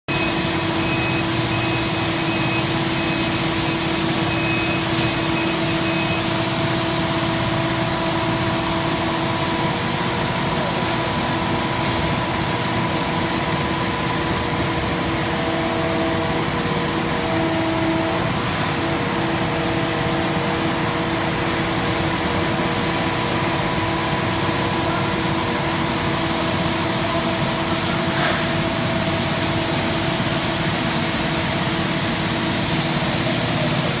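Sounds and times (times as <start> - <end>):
concrete pump machinery drone: 0.1 - 34.0.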